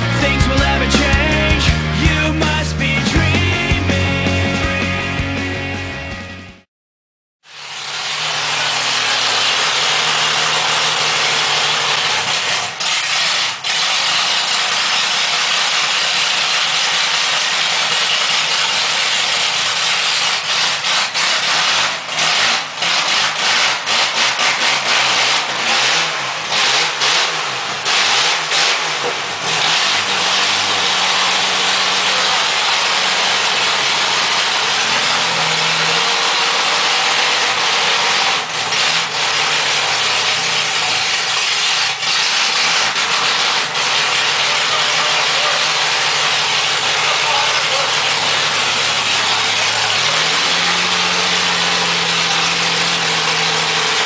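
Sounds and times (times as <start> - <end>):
car engine revving: 0.0 - 6.6, 7.4 - 54.0.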